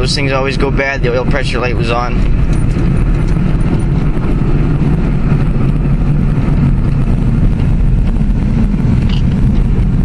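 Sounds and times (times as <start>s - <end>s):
car engine running: 0.0s - 10.0s
tyre and road noise: 0.0s - 10.0s.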